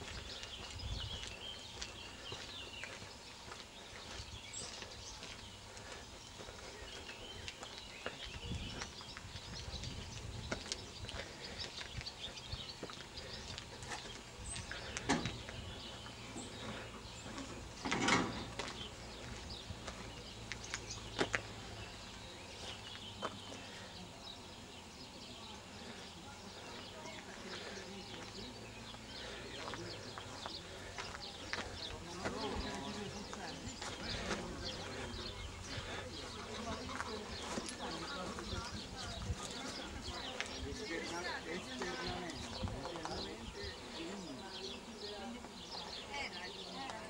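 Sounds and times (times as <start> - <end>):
birds chirping: 0.0 - 47.0
footsteps on pavement: 0.0 - 47.0.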